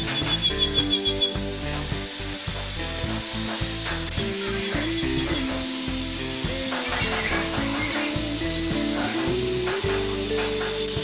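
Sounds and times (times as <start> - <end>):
angle grinder sanding wood: 0.0 - 11.0
background music: 0.0 - 11.0.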